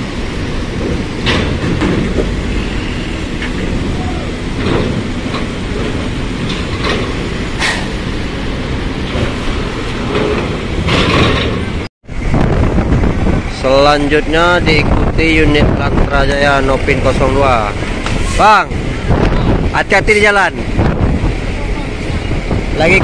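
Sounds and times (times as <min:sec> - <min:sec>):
bus engine and tyre rumble: 0:00.0 - 0:23.0.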